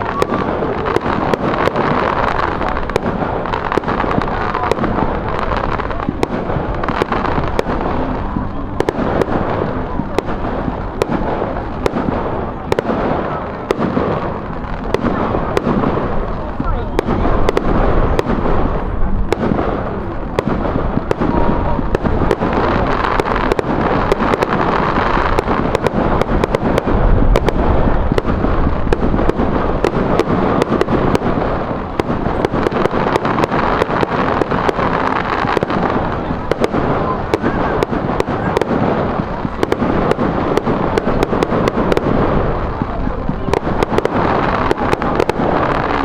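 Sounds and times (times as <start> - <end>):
fireworks cracking: 0.0 - 46.0.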